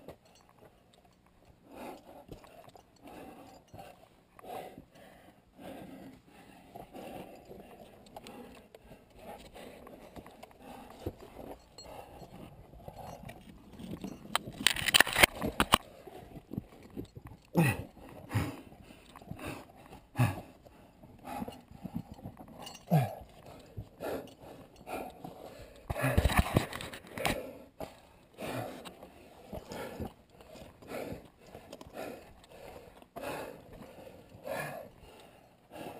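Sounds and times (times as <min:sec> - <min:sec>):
gloved hands on rope: 0:00.0 - 0:35.9.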